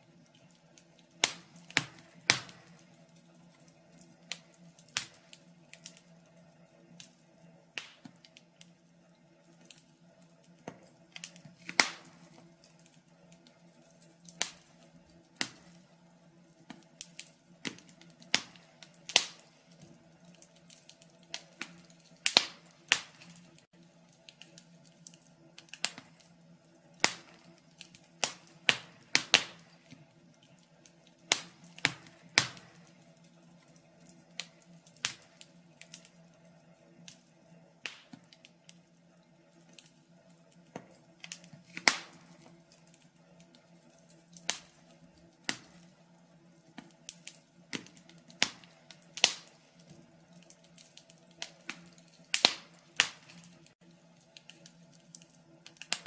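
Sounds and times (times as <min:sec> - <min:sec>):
faint steady hum: 0:00.0 - 0:56.0
burning wood popping and snapping: 0:00.2 - 0:06.2, 0:07.8 - 0:08.8, 0:09.4 - 0:36.2, 0:37.0 - 0:38.8, 0:39.6 - 0:56.0.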